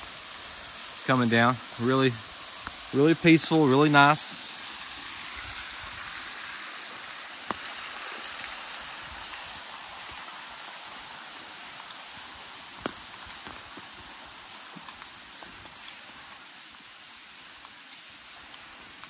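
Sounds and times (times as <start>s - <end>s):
small waterfall running: 0.0s - 19.0s.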